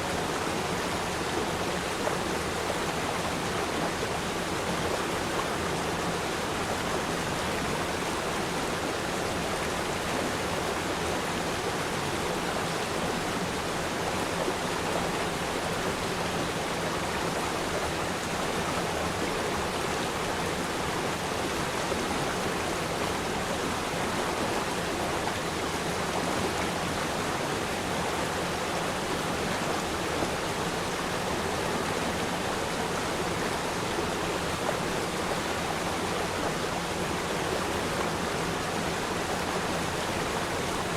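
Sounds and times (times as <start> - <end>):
river stream flowing: 0.0 - 40.9.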